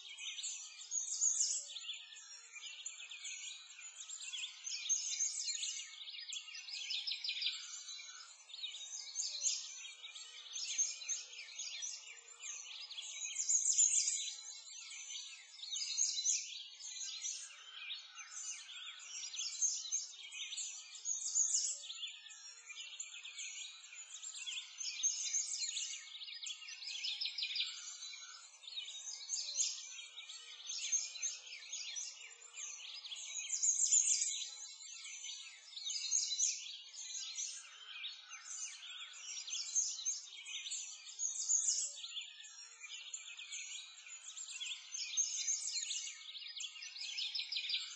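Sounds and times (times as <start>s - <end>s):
songbirds chirping and singing: 0.0s - 47.9s.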